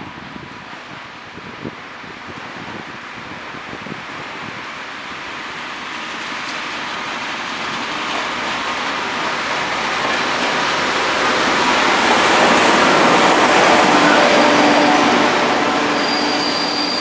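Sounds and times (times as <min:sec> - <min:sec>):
train engine and wheels rumbling: 0:00.0 - 0:17.0.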